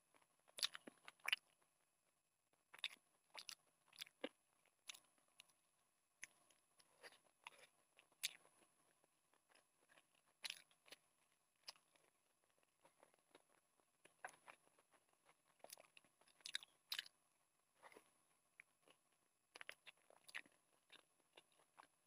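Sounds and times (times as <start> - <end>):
person chewing meat: 0.1 - 1.6, 2.7 - 5.6, 6.2 - 17.2, 17.8 - 22.0.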